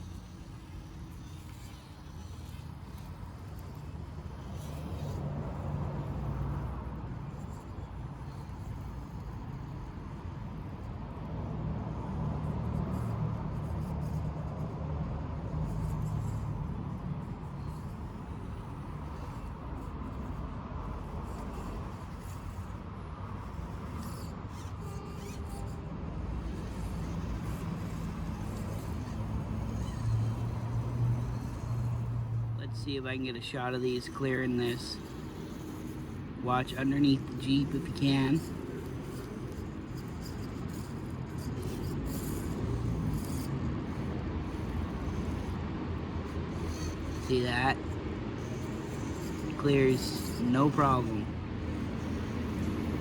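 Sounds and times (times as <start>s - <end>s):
small electric motor running: 0.0s - 53.0s.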